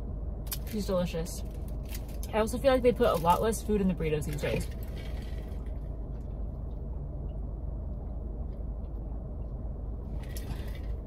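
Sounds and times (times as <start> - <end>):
car cabin low hum: 0.0 - 11.0.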